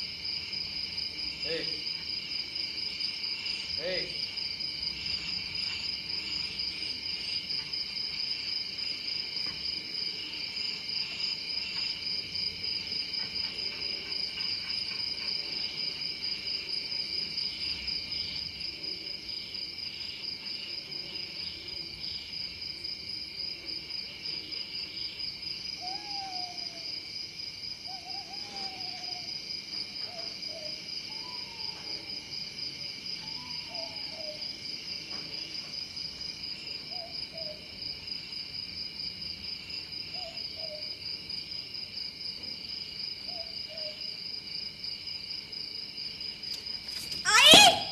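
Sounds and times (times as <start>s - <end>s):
crickets chirring: 0.0s - 47.9s.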